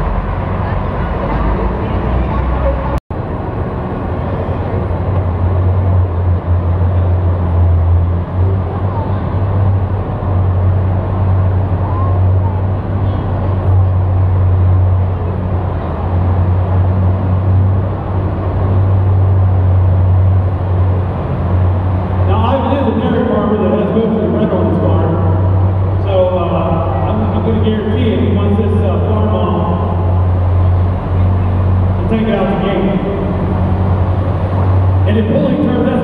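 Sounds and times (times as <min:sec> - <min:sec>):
crowd noise: 0:00.0 - 0:36.0
tractor engine droning: 0:00.0 - 0:36.0.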